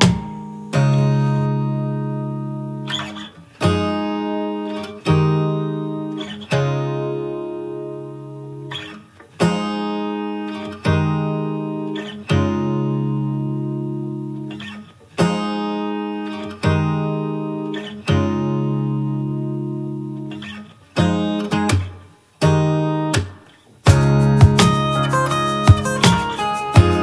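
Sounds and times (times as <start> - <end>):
strummed acoustic guitar chords: 0.0 - 27.0.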